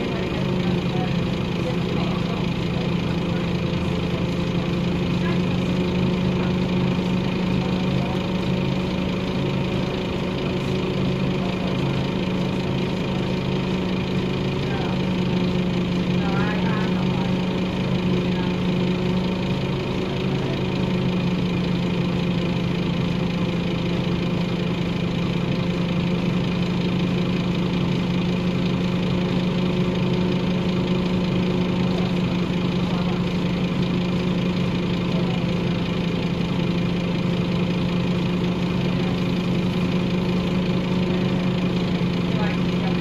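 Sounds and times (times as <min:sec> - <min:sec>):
bus engine idling: 0:00.0 - 0:43.0.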